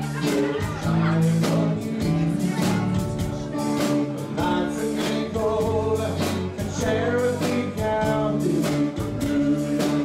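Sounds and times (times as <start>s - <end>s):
country-rock band playing: 0.0s - 10.0s
steady drum beat: 0.0s - 10.0s.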